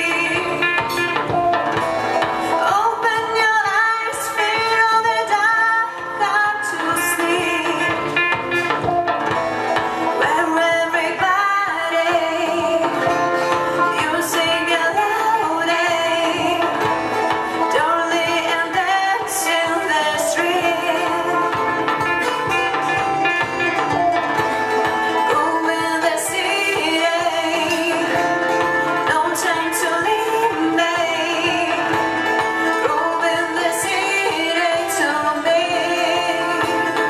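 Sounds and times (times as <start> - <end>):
band playing live: 0.0 - 37.0
guitar plucking: 0.0 - 37.0
person singing: 0.0 - 37.0.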